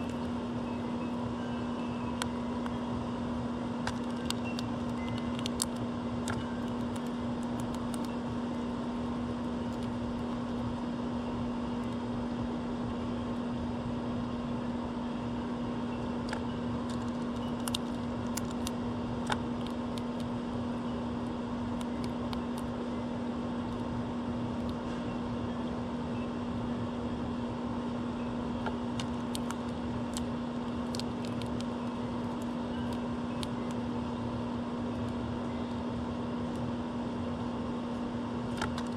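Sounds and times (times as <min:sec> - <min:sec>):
steady machine hum: 0:00.0 - 0:38.9.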